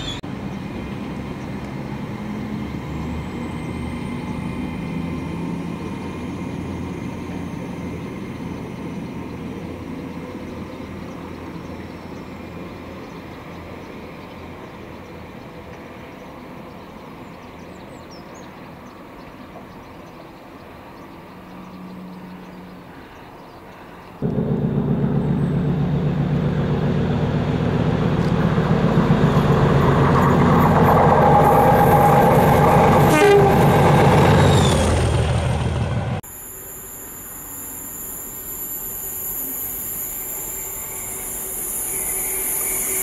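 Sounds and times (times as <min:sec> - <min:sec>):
diesel locomotive engine passing: 0:00.0 - 0:36.2
train humming: 0:00.0 - 0:43.0.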